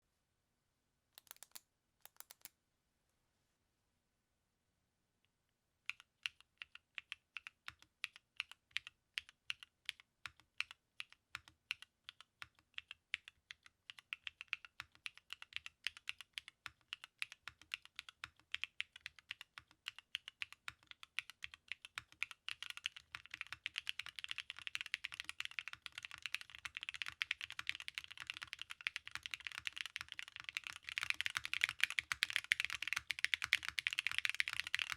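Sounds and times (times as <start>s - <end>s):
mechanical keyboard typing: 1.2s - 2.5s, 5.9s - 34.9s.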